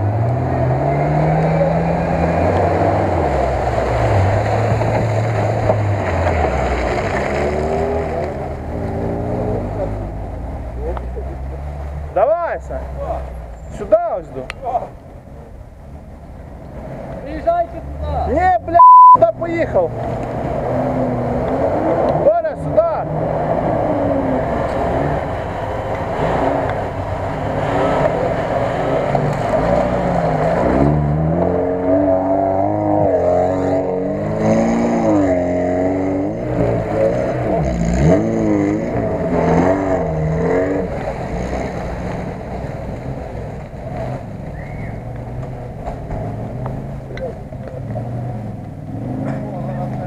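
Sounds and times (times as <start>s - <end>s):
off-road vehicle engines revving: 0.0s - 50.0s.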